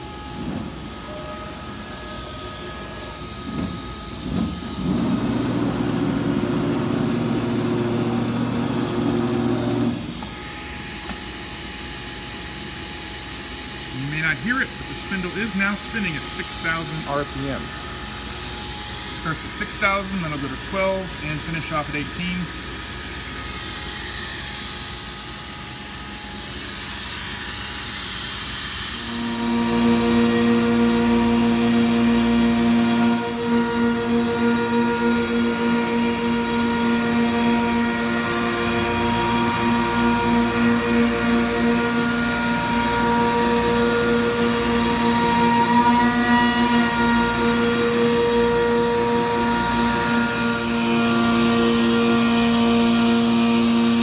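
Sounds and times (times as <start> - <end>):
spindle hum with whine: 0.0 - 54.0.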